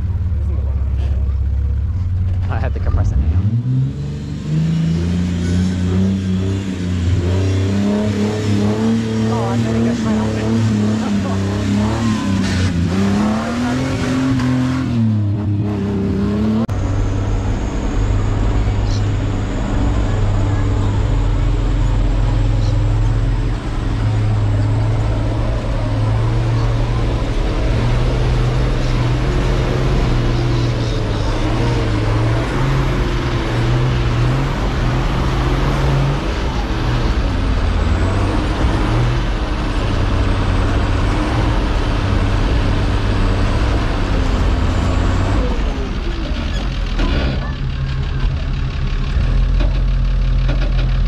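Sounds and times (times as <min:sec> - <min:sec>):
vehicle engine under heavy load: 0:00.0 - 0:51.0.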